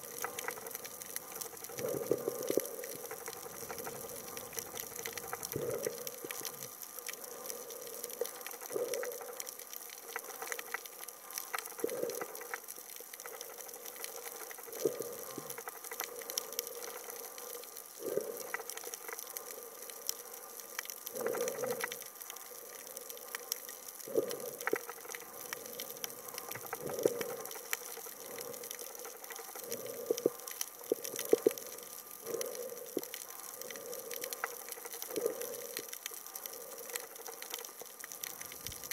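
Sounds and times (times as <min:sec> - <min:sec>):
underwater fine crackle: 0:00.0 - 0:38.9.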